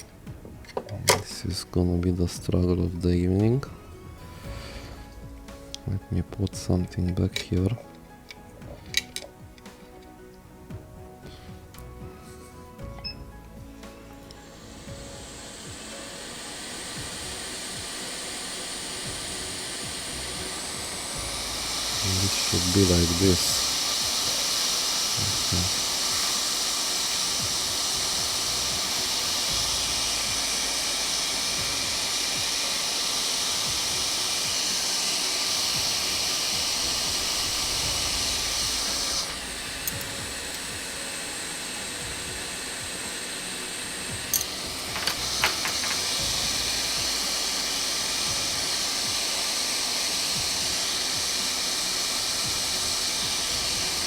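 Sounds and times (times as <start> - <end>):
hot air station hissing: 0.0 - 54.0.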